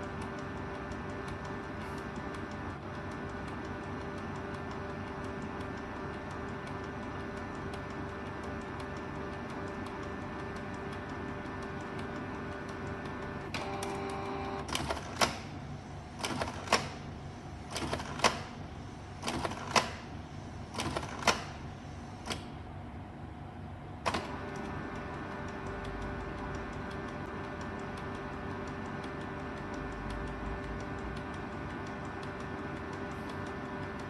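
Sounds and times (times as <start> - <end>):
printer mechanism clicking and clunking: 0.0 - 22.6, 24.0 - 30.0
steady motor hum: 0.0 - 34.0.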